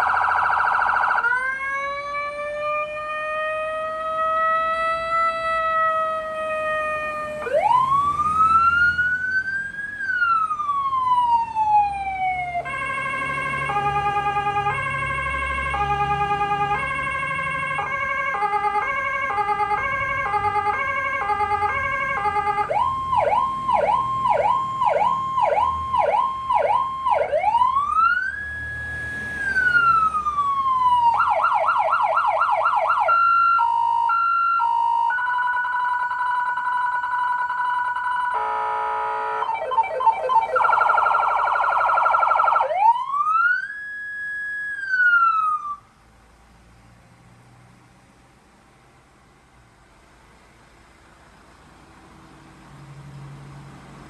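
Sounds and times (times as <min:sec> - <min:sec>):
electronic siren cycling tones: 0:00.0 - 0:45.8.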